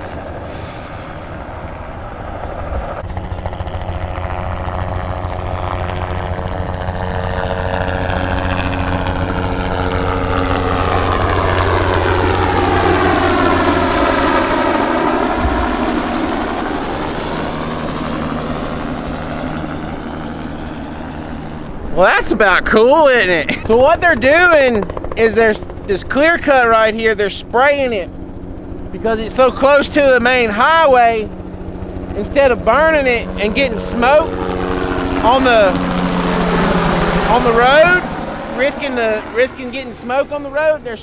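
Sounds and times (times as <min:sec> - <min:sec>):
helicopter rotor chop and turbine whine: 0:00.0 - 0:41.0.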